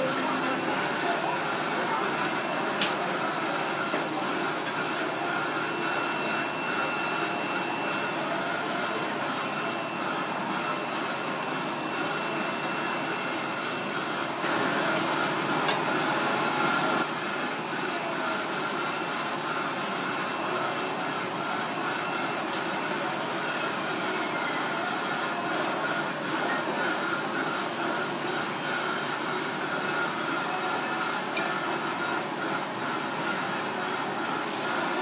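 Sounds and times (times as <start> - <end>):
machine noise with high whine: 0.0 - 35.0.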